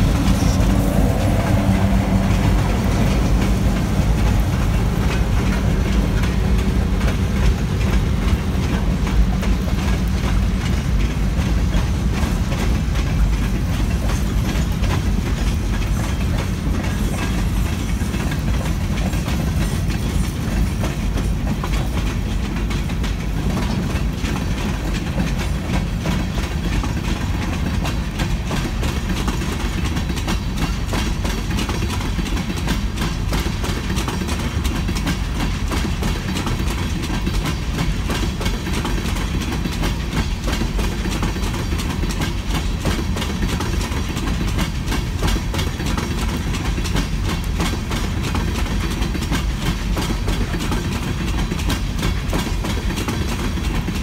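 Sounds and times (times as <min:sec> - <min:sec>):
train wheels rumbling on rails: 0:00.0 - 0:54.0
wheels clicking over rail joints: 0:00.0 - 0:54.0.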